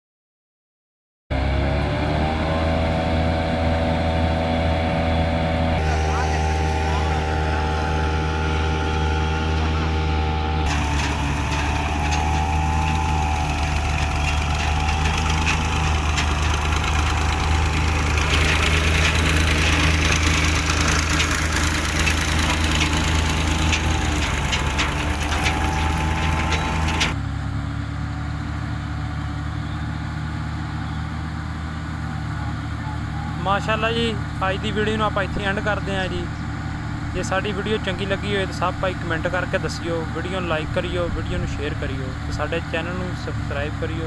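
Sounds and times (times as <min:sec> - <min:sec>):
combine harvester engine hum: 0:01.3 - 0:44.0.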